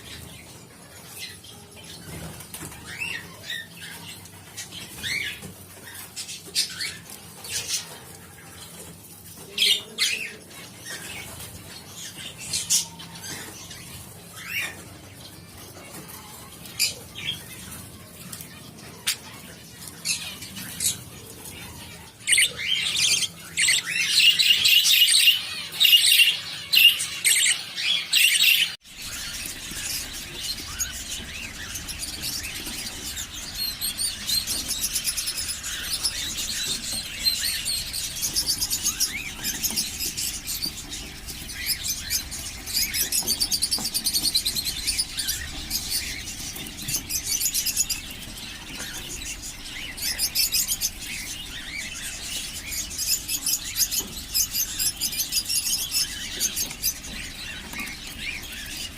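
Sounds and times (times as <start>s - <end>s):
parrots chirping and chattering: 0.0s - 58.9s.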